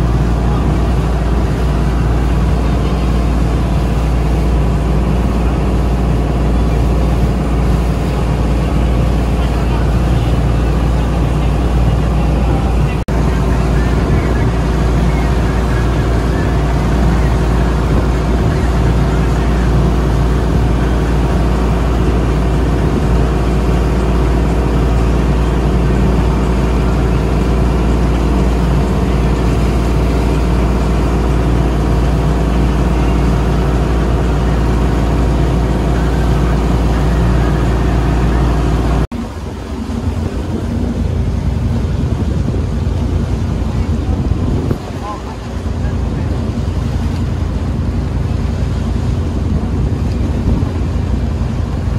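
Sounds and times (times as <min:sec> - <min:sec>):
boat engines running: 0:00.0 - 0:51.9
rush of boat wake: 0:00.0 - 0:51.9
wind buffeting microphone: 0:00.0 - 0:51.9.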